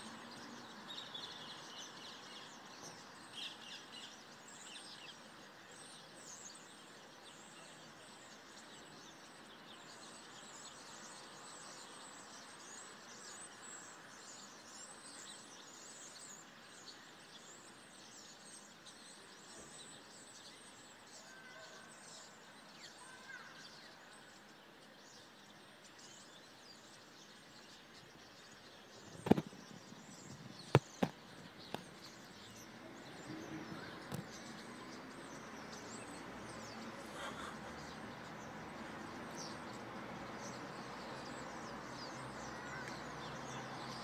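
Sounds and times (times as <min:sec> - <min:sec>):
small birds chirping: 0:00.0 - 0:44.0
steady background hiss: 0:00.0 - 0:44.0.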